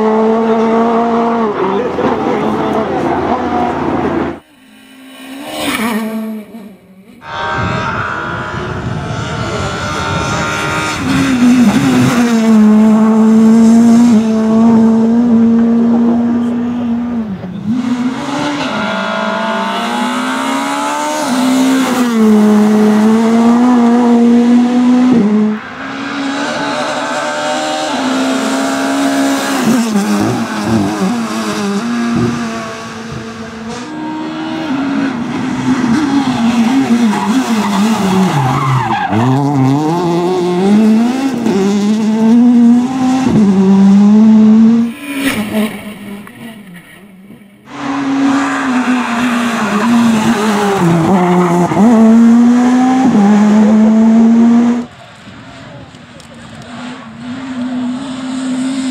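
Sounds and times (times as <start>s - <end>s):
rally car engine at high revs: 0.0s - 4.5s, 5.1s - 58.9s.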